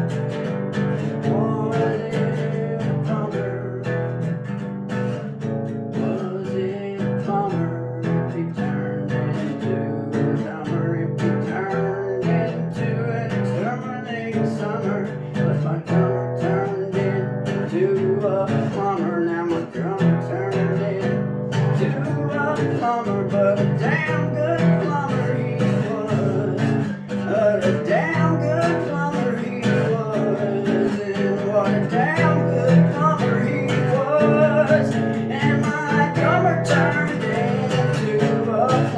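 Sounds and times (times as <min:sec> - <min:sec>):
acoustic guitar strumming chords: 0:00.0 - 0:38.9.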